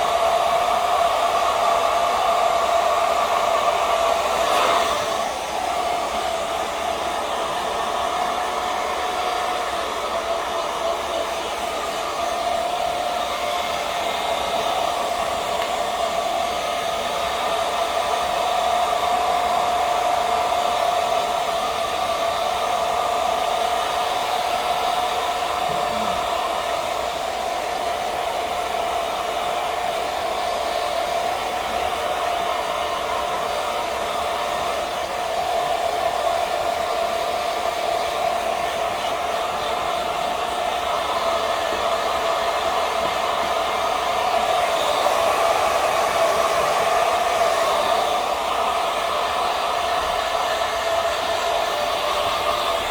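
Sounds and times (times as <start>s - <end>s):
hair dryer blowing: 0.0s - 52.9s.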